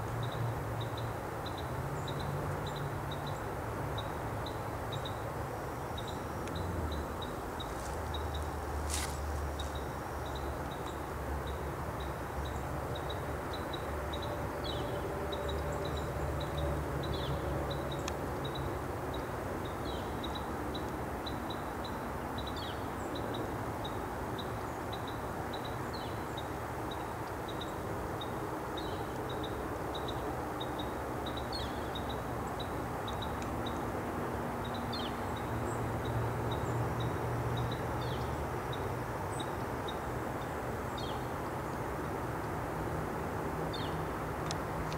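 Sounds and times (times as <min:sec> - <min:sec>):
low rumble of distant traffic: 0:00.0 - 0:44.9.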